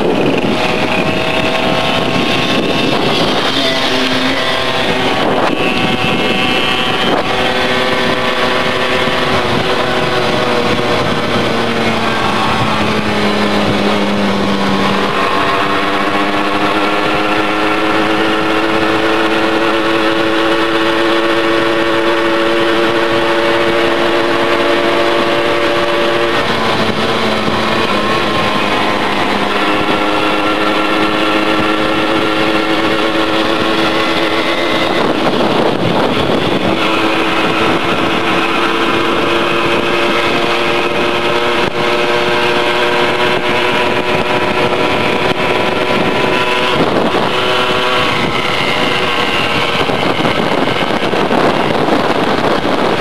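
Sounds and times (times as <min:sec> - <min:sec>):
moped engine whine: 0:00.0 - 0:53.0
wind rushing past microphone: 0:00.0 - 0:53.0.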